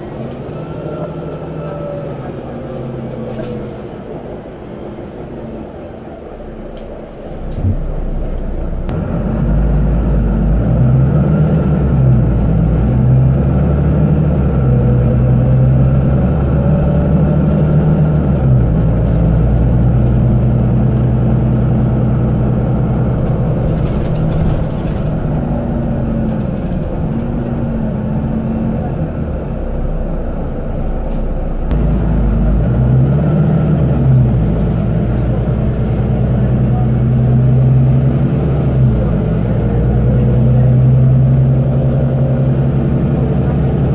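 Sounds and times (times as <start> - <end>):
bus diesel engine: 0.0 - 43.9.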